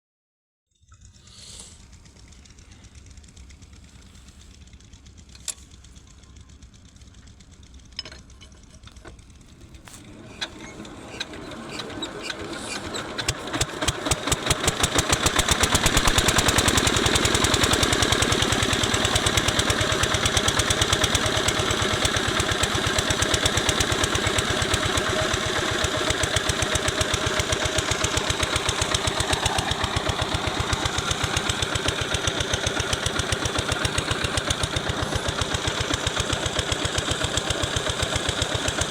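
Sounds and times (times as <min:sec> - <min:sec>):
diesel engine chugging: 0:01.0 - 0:38.9.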